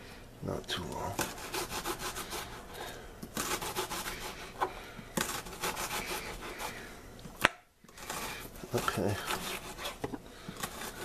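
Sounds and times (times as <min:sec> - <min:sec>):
knife slicing through onion: 0:01.1 - 0:11.0.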